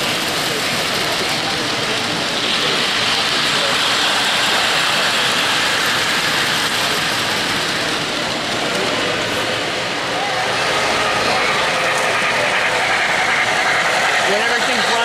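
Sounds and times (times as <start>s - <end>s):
model train wheels rolling on rails: 0.0s - 15.0s.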